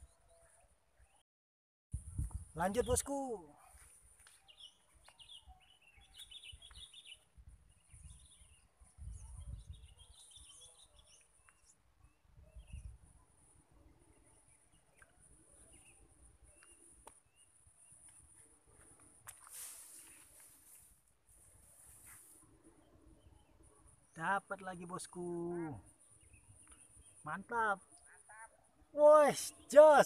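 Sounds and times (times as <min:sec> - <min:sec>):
small birds chirping: 0:02.1 - 0:30.0.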